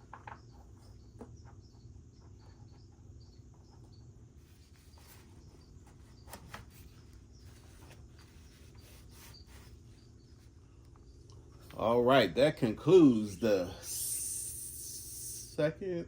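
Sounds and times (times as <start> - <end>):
insects chirping: 0.0 - 16.0
low background hum: 0.0 - 16.0.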